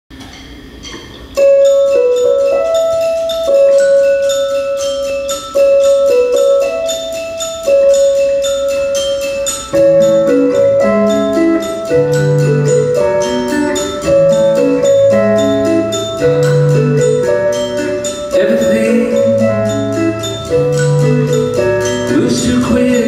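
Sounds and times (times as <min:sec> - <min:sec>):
held melody notes: 0:00.8 - 0:23.0
fast high note pattern: 0:01.4 - 0:23.0
bass notes: 0:01.5 - 0:23.0.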